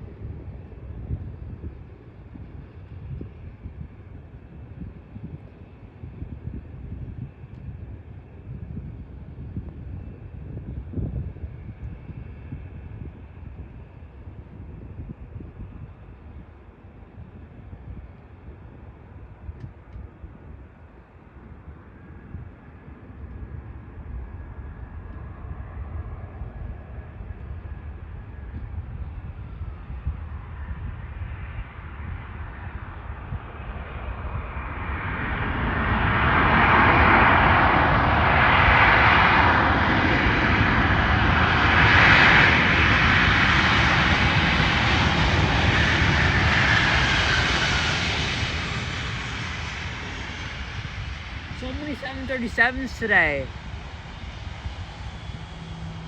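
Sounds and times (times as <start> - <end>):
jet engines landing: 0.0 - 56.0.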